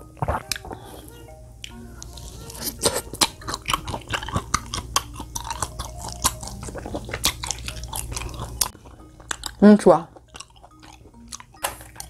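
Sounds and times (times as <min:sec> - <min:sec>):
wet chewing mouth clicks: 0:01.6 - 0:09.6, 0:10.2 - 0:12.0.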